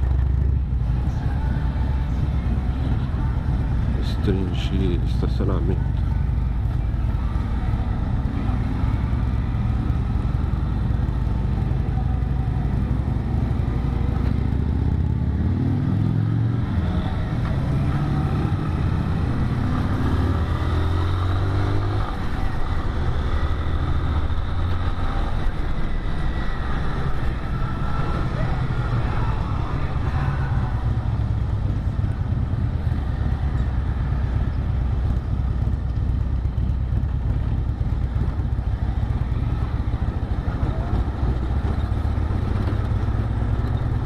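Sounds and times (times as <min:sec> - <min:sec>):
motorcycle engine revving: 0:05.8 - 0:44.0.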